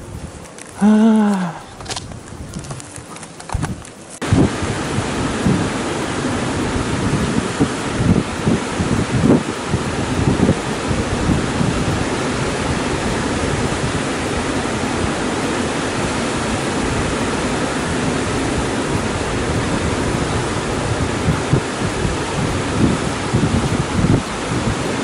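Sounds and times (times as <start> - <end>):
river rushing over rocks: 4.2 - 25.0.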